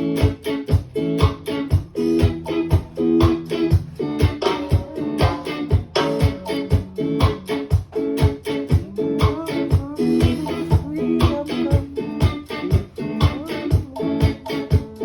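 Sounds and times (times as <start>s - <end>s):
band music: 0.0s - 15.0s
kick drum beat: 0.0s - 15.0s.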